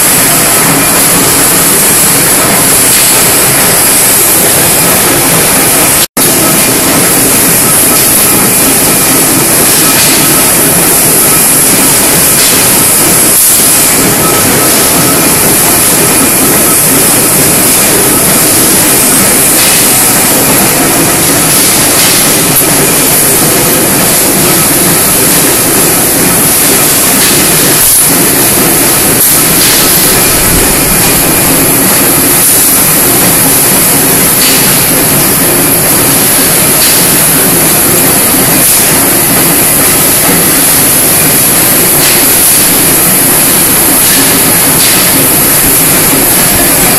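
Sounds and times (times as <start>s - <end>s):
tube bending machine hissing: 0.0s - 46.9s.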